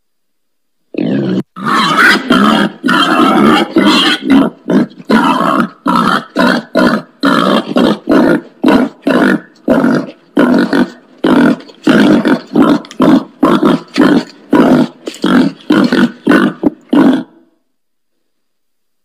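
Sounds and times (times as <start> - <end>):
wild pig grunting: 0.9 - 17.5.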